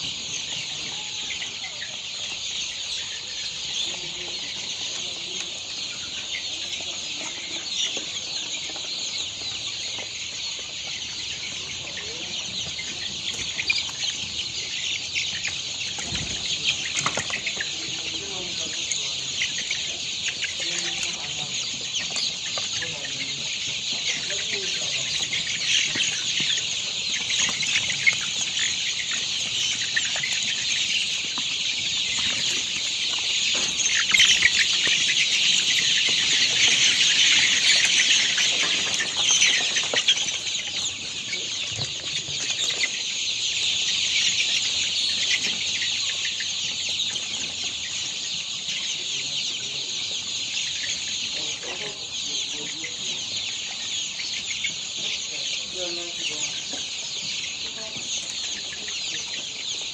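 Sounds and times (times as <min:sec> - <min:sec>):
flock of chickens calling: 0:00.0 - 0:59.9.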